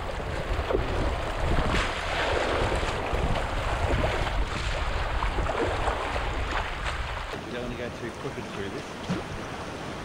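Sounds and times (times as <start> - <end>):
paddle splashes: 0.0 - 10.0
rushing white water: 0.0 - 10.0
wind buffeting microphone: 0.0 - 10.0.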